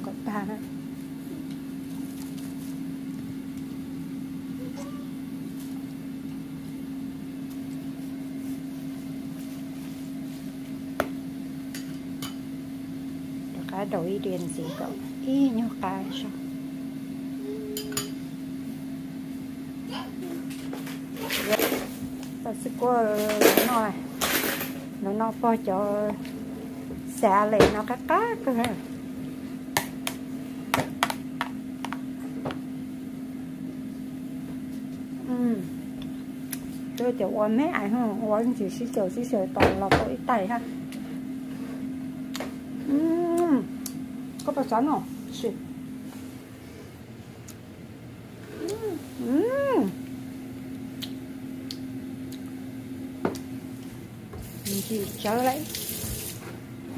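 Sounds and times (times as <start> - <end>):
steady machine hum: 0.0 - 56.9.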